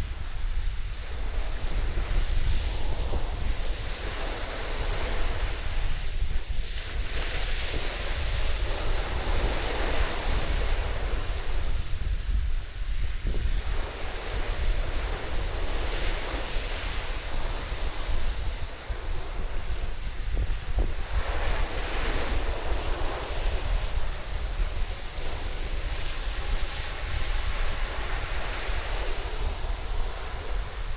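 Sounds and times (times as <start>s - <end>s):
surf washing onto beach: 0.0s - 30.9s
wind buffeting microphone: 0.0s - 30.9s.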